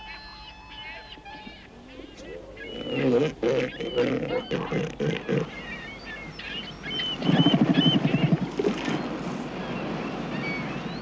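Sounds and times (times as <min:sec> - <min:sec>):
seal guttural call: 0:01.2 - 0:10.8.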